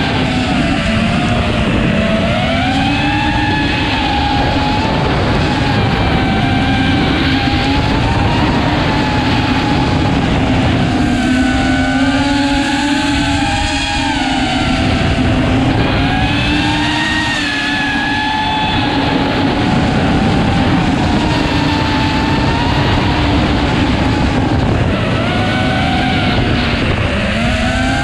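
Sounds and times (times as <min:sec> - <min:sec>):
drone motors whining: 0:00.0 - 0:28.0
steady rushing noise: 0:00.0 - 0:28.0.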